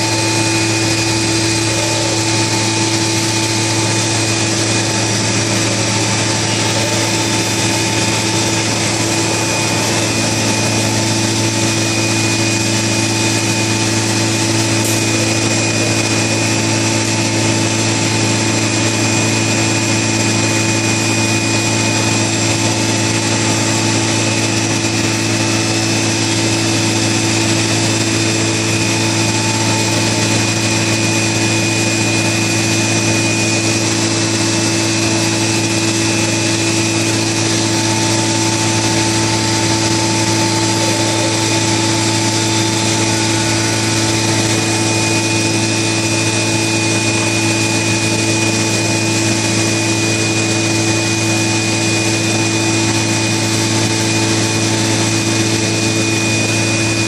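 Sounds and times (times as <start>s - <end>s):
low machine hum: 0.0s - 57.0s
router spindle whine: 0.0s - 57.0s.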